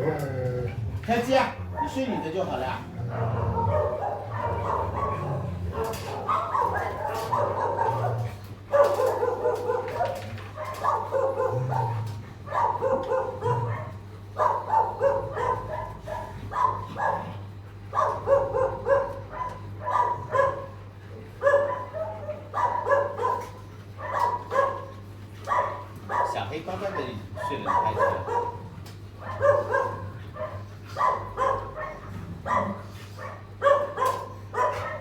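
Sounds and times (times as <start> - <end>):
dogs barking: 0.0 - 35.0
steady low hum: 0.0 - 35.0.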